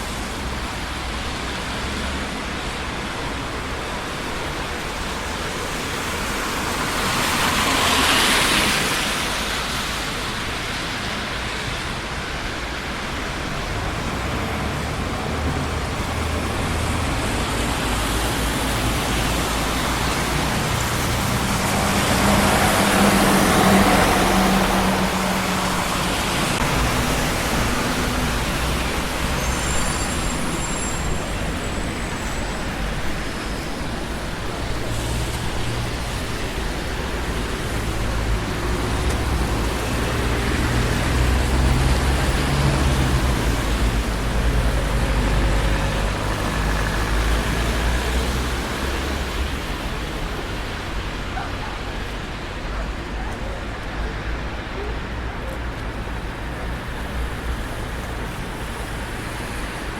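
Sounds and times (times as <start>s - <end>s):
busy street traffic: 0.0s - 59.9s
heavy vehicle engine passing: 5.1s - 54.5s.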